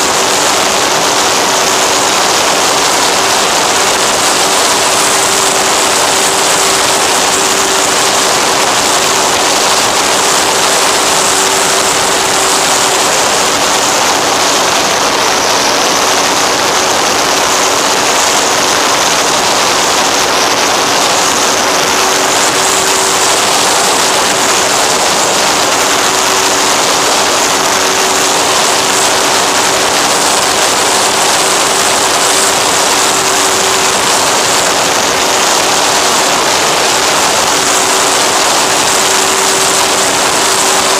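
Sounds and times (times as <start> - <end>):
electric motor and propeller hum: 0.0 - 40.9
rush of airflow: 0.0 - 40.9.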